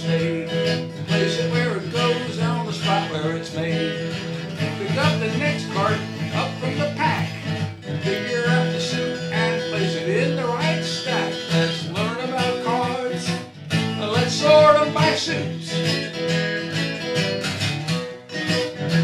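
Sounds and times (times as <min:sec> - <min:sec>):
country song with acoustic guitar: 0:00.0 - 0:19.0.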